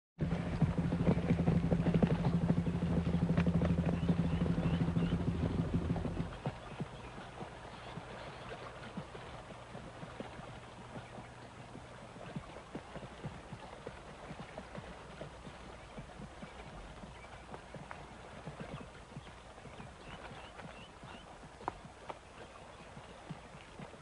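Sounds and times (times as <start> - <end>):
low hum: 0.2 - 22.7.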